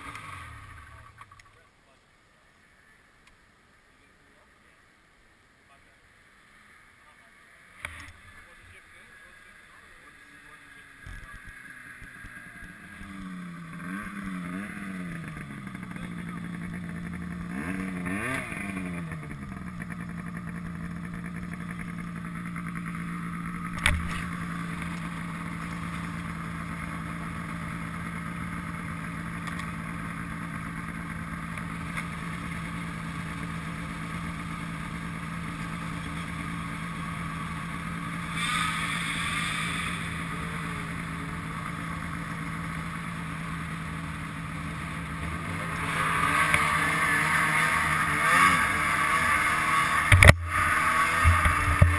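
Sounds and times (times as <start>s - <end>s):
snowmobile engines idling: 0.0s - 51.9s
snowmobile revving: 6.6s - 51.9s
snowmobile passing by: 8.3s - 51.9s.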